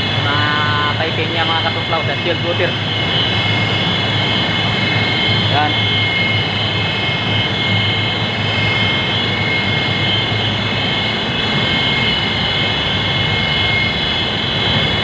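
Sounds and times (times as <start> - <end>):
machinery high whines: 0.0 - 15.0
machinery low hum: 0.0 - 15.0.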